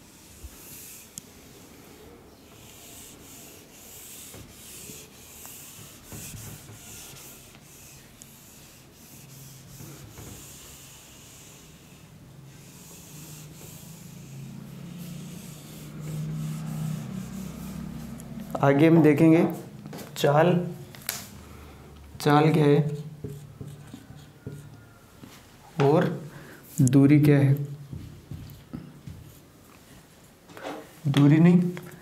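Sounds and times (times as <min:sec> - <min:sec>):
eraser wiping whiteboard: 0:00.0 - 0:19.7, 0:22.2 - 0:29.5.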